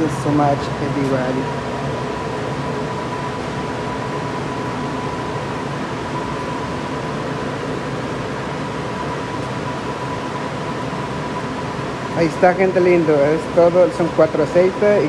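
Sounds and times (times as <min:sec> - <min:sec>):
kitchen ventilation hum and hiss: 0:00.0 - 0:15.0.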